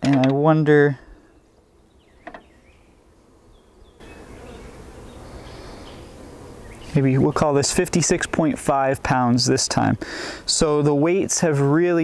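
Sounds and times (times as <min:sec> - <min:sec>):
bees buzzing: 0:00.5 - 0:12.0.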